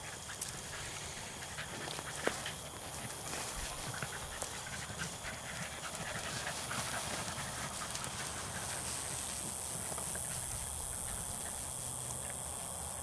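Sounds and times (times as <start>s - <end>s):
rustling through tall grass: 0.0s - 12.7s
dogs panting and sniffing: 0.0s - 13.0s.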